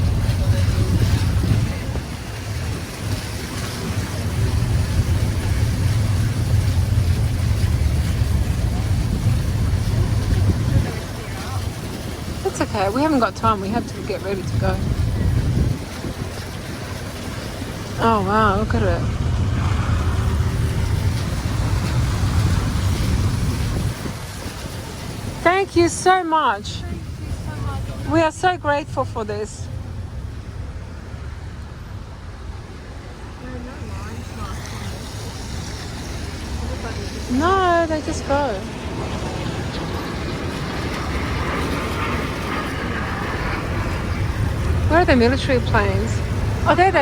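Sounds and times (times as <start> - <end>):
car engine rumble: 0.0 - 47.0
tyres on wet road: 0.0 - 47.0.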